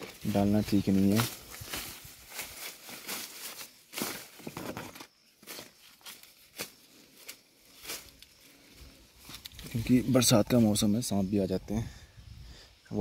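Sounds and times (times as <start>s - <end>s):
stick rustling through undergrowth: 0.0s - 10.7s.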